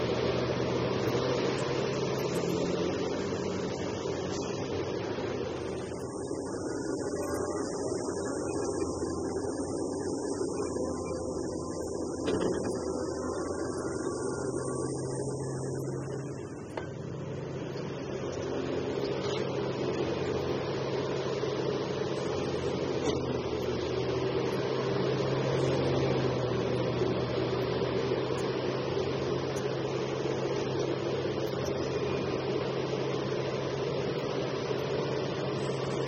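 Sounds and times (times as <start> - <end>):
excavator diesel engine droning: 0.0 - 36.0.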